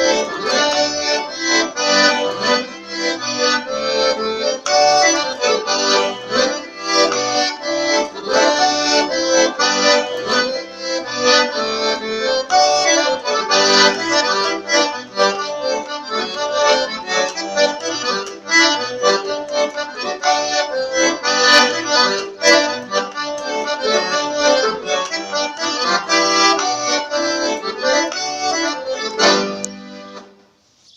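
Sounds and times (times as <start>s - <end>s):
accordion playing fast tune: 0.0s - 30.4s.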